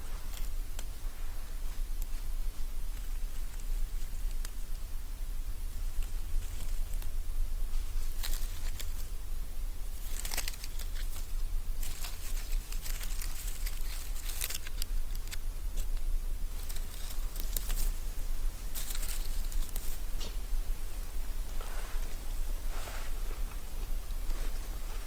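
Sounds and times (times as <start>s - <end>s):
rustling in dry leaves: 0.0s - 25.0s.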